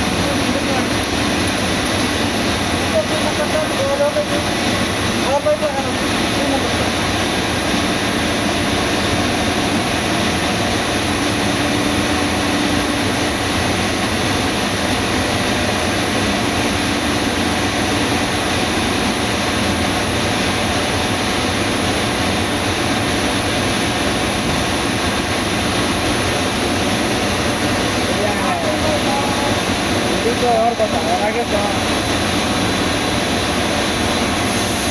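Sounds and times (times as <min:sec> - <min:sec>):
loud machine drone: 0:00.0 - 0:34.9.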